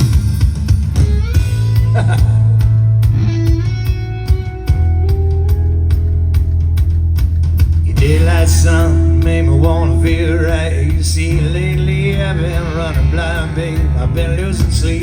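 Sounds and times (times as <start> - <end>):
drum hits: 0.0 - 12.2
bass guitar notes: 0.0 - 15.0
electric guitar: 0.0 - 15.0.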